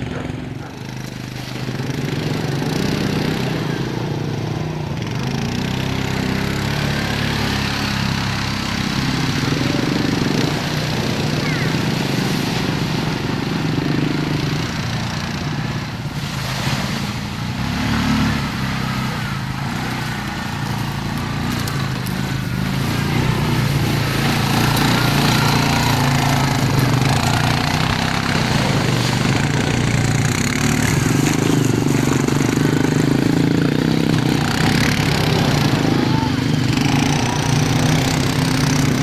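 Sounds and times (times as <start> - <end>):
atv engine revving: 0.0 - 39.0.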